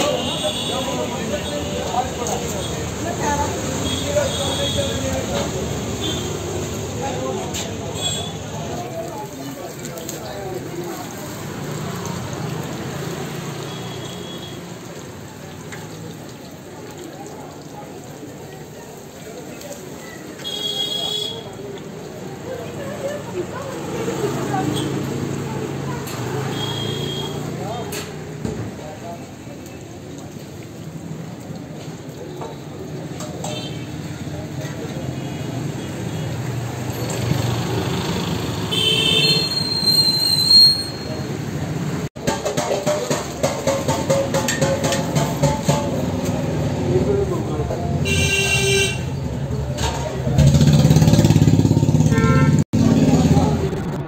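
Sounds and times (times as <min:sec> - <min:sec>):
oil sizzling: 0:00.0 - 0:39.5, 0:41.2 - 0:46.9
street traffic: 0:00.0 - 0:54.0.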